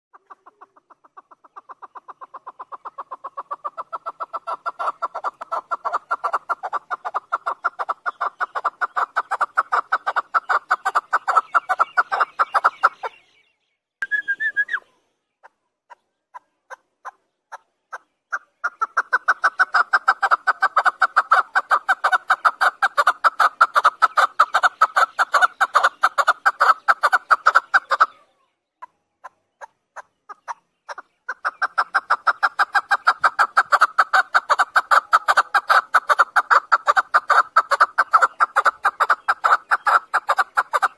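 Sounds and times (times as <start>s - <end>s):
partridge clucking calls: 0.1s - 13.2s, 14.0s - 40.9s.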